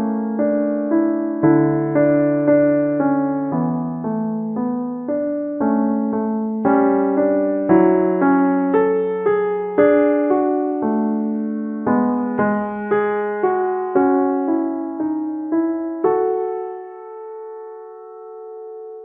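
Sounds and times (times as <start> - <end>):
piano chords and bass notes: 0.0 - 19.0.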